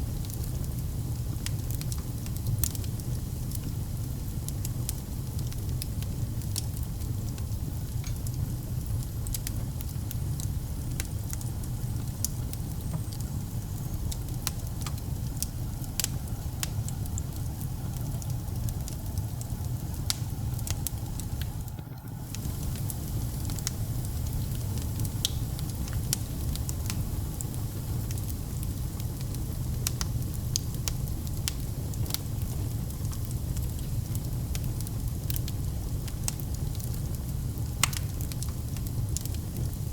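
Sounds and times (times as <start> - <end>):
fire crackles and pops: 0.0 - 39.9
fire rumbling in fireplace: 0.0 - 39.9.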